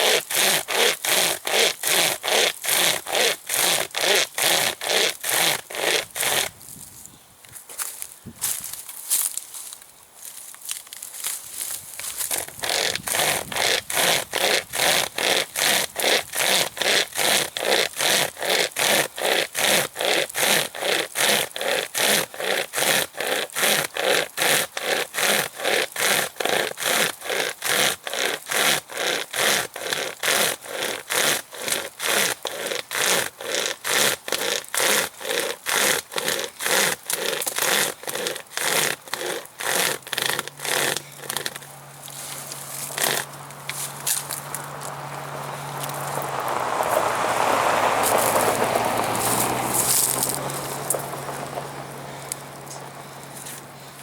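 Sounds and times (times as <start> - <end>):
chainsaw chain rasping through wood: 0.0 - 7.0, 10.7 - 54.0.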